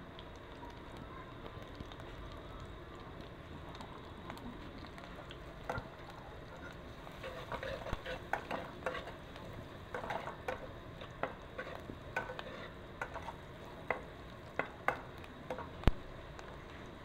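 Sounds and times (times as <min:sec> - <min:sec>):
frying oil sizzling: 0:00.0 - 0:17.0.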